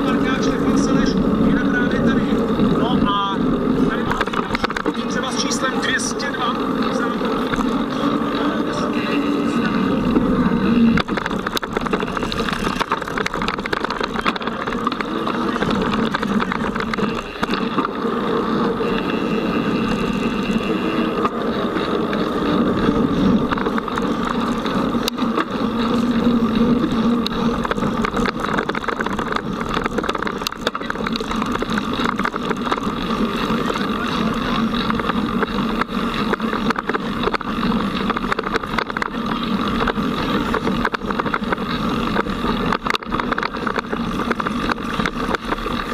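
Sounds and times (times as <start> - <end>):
bike clicks and rattles: 0.0 - 45.9
knobby tyres rolling on dirt: 0.0 - 45.9.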